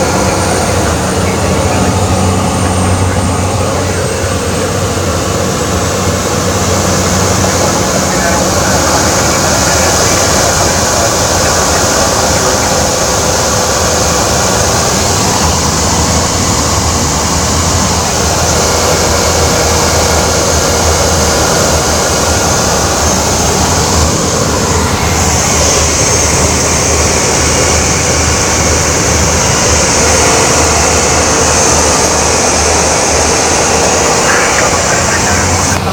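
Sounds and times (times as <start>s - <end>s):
propeller plane cabin drone: 0.0s - 35.9s.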